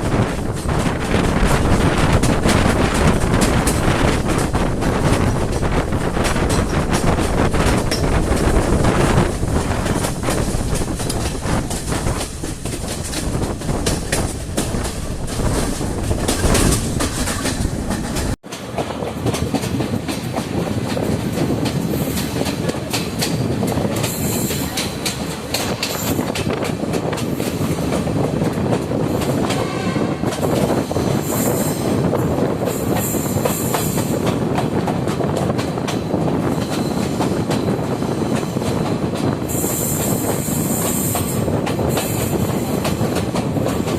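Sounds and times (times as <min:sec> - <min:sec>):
train rumble with wheel clatter: 0:00.0 - 0:43.9.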